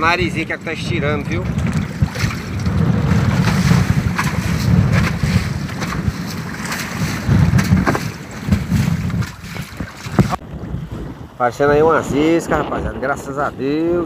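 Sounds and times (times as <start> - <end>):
waves washing against raft: 0.0 - 13.7
wind buffeting microphone: 0.0 - 14.0.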